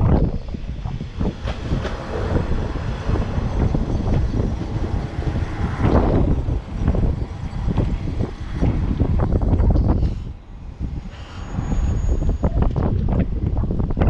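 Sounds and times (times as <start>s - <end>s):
diesel railcar rumbling past: 0.2s - 14.0s.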